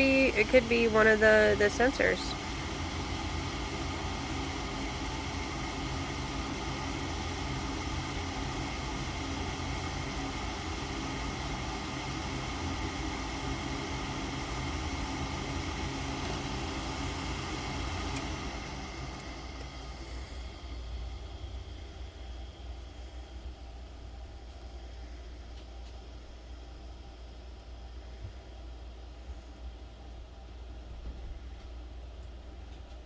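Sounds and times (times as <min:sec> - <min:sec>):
furnace motor whir and hum: 0:00.0 - 0:33.0.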